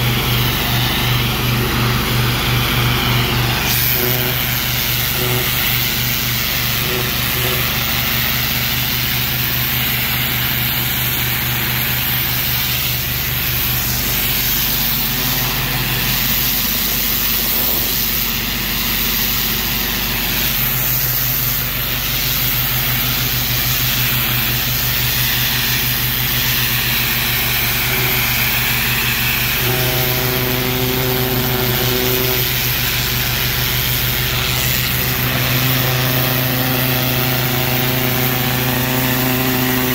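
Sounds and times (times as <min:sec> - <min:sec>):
pressure washer machine hum: 0:00.0 - 0:39.9
pressure washer spray hissing: 0:00.0 - 0:39.9.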